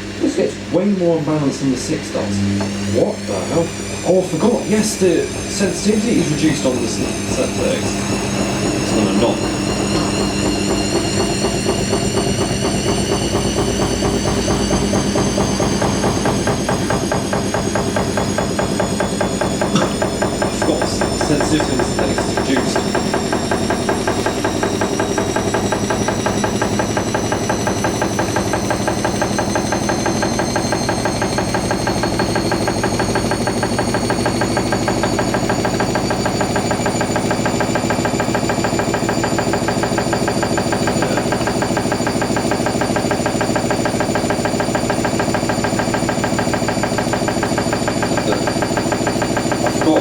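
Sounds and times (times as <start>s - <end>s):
washing machine motor whine: 0.0s - 50.0s
fast rhythmic pulsing: 1.2s - 50.0s.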